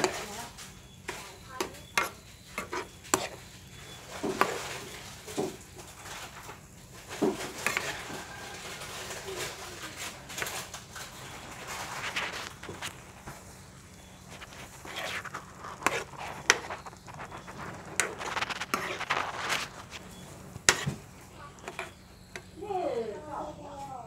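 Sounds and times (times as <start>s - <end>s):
spatula scraping and knocking wok: 0.0s - 22.6s
light sizzle: 0.0s - 24.0s.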